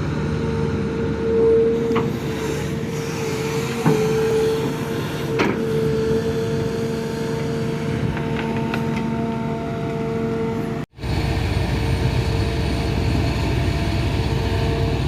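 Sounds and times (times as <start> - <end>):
excavator engine whining: 0.0 - 15.0.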